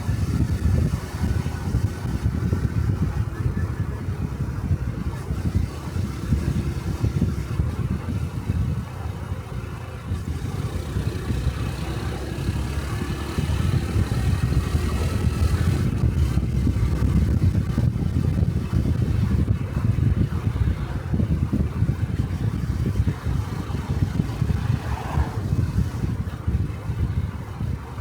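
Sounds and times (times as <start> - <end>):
motorcycle engine running: 0.0 - 28.0
wind on microphone: 0.0 - 28.0.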